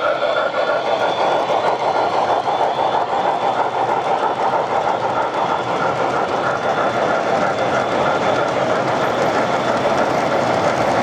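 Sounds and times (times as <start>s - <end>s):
model train wheels clattering: 0.0s - 11.0s.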